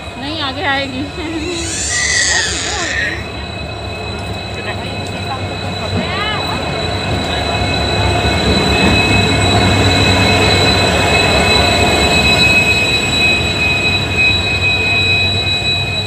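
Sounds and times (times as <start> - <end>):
diesel locomotive engine rumble: 0.0 - 16.0
high squeal of braking wheels: 1.4 - 16.0.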